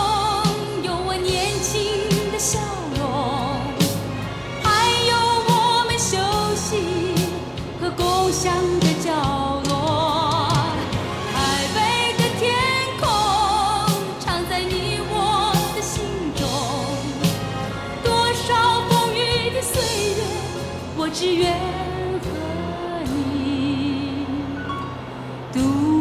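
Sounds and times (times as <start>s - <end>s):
pop ballad with vibrato vocals: 0.0s - 26.0s.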